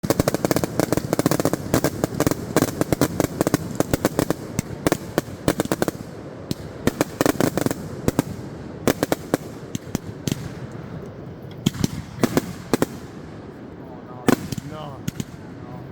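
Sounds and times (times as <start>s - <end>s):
firework bangs: 0.0s - 15.9s
firework crackle: 0.0s - 15.9s.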